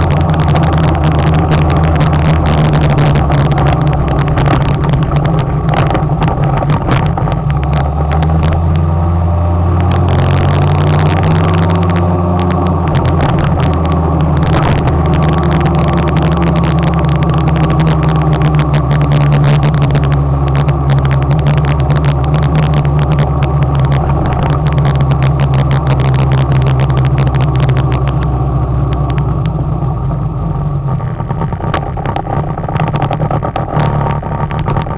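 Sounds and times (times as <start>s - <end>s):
motor scooter engine running: 0.0s - 8.8s, 9.8s - 34.9s
wind and road noise: 0.0s - 34.9s.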